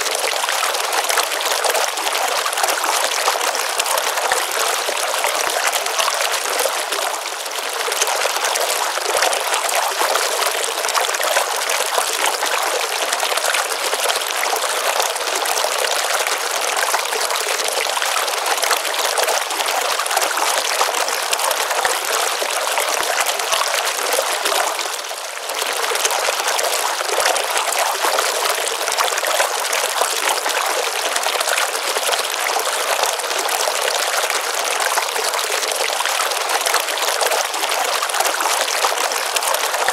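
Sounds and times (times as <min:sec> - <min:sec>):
water pouring into pond: 0:00.0 - 0:39.9.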